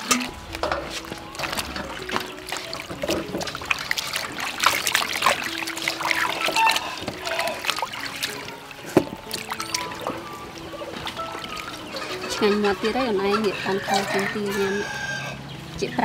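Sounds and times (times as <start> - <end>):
small splashes and clicks: 0.0 - 13.1
water sloshing in metal bowl: 0.0 - 15.9.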